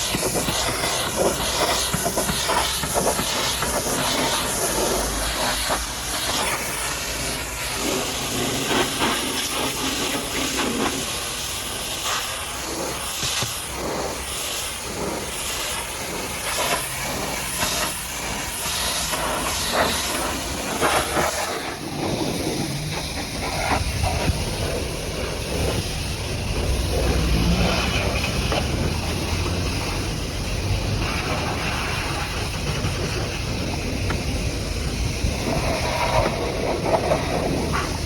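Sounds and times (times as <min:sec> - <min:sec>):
high-pressure water jet hissing: 0:00.0 - 0:38.0.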